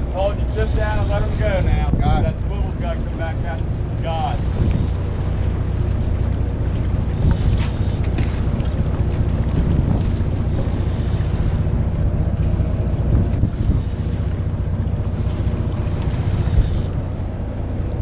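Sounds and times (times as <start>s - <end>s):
boat engine running: 0.0s - 18.0s
water washing along hull: 0.0s - 18.0s
wind buffeting microphone: 0.0s - 18.0s.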